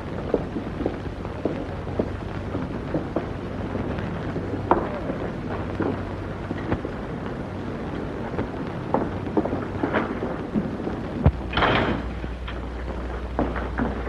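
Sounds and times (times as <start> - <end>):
crackles and pops: 0.0 - 14.0
film soundtrack hiss: 0.0 - 14.0
low hum: 0.0 - 14.0.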